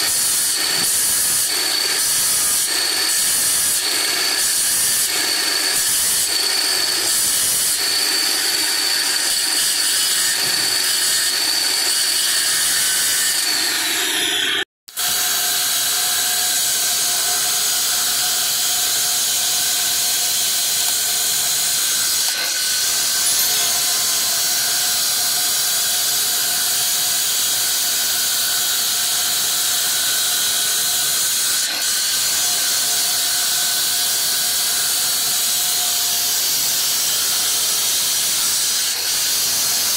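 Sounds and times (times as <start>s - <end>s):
marble cutter wet-cutting: 0.0s - 39.9s.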